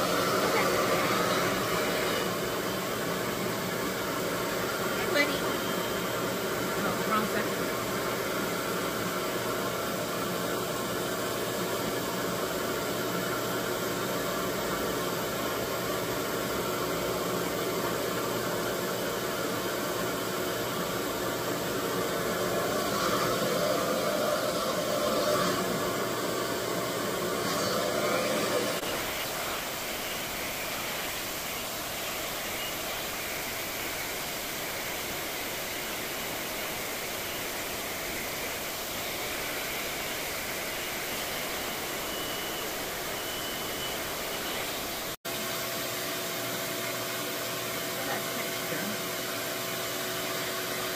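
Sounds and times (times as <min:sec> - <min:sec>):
blow dryer air rush and motor whine: 0:00.0 - 0:50.9.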